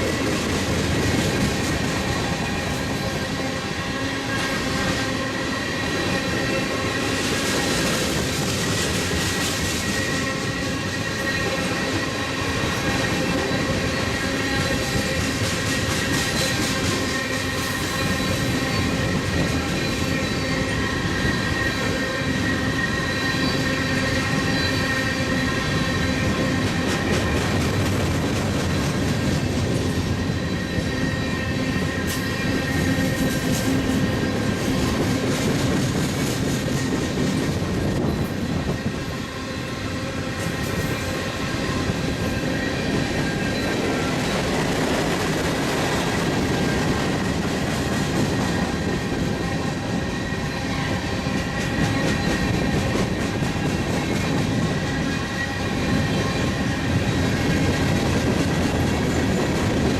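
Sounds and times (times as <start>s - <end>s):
steel wheels rumbling on rail: 0.0s - 59.9s
high-pitched wheel squeal: 9.2s - 28.3s, 29.4s - 35.8s, 36.6s - 47.4s, 48.1s - 59.9s.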